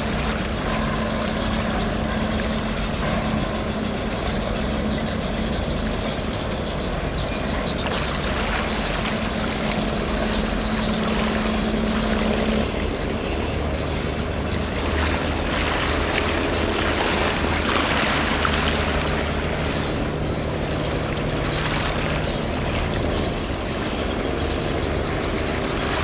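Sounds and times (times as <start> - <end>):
rushing water noise: 0.0 - 26.0
ship engine rumble: 0.0 - 26.0.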